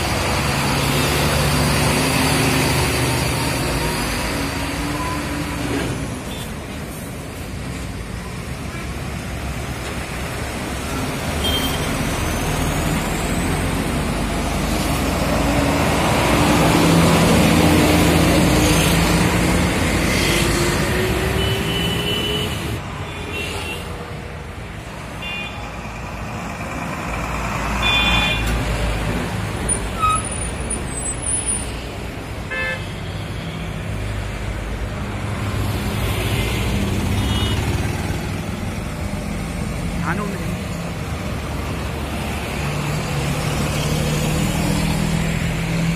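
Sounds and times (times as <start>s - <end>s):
diesel trucks driving past: 0.0s - 23.0s, 24.0s - 32.5s, 33.3s - 45.9s.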